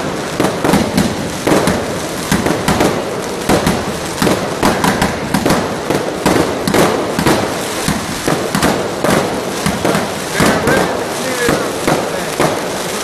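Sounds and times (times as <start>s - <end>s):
distant fireworks crackling: 0.0s - 13.0s
firecrackers banging: 0.0s - 13.0s.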